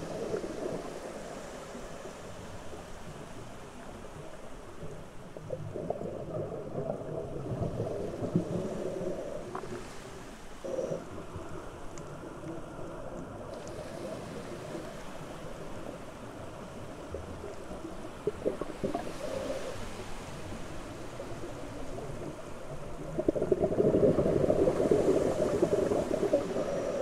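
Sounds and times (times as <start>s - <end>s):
underwater crackles: 0.0s - 27.0s
underwater low rushing: 0.0s - 27.0s.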